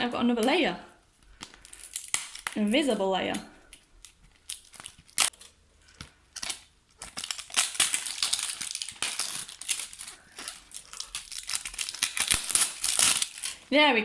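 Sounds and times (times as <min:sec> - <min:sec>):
plastic wrapping crinkling and tearing: 0:01.2 - 0:03.0, 0:03.6 - 0:13.7.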